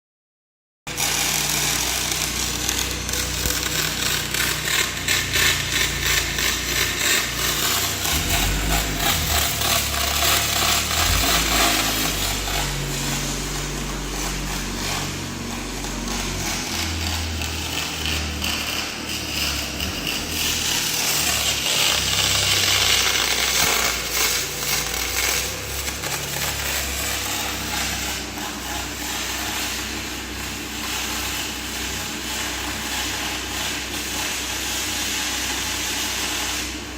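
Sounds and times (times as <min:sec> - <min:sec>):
welding arc crackling hiss: 0:00.9 - 0:36.9.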